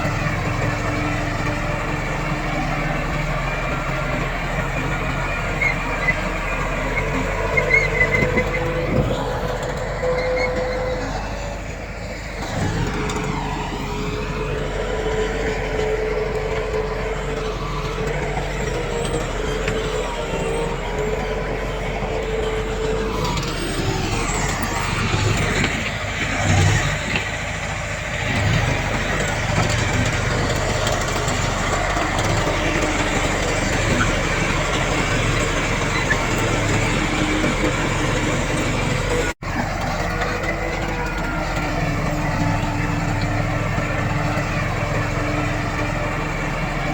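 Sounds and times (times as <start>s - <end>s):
earthmoving machinery diesel engines: 0.0s - 46.9s.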